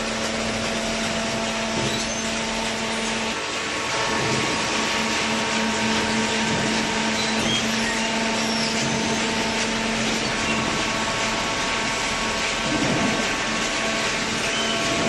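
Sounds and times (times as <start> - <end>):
baler motor and pump hum: 0.0 - 15.0.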